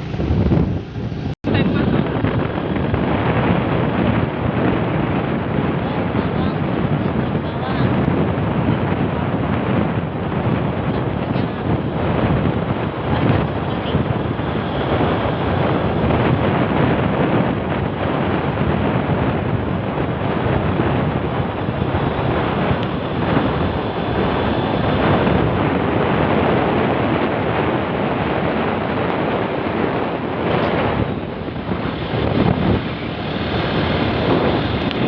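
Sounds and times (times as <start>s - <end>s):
road and vehicle noise: 0.0s - 35.0s
wind buffeting the microphone: 0.0s - 35.0s.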